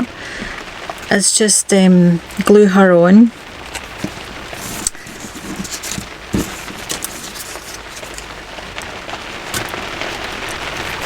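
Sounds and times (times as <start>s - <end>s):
heavy rain on roof: 0.0s - 11.0s.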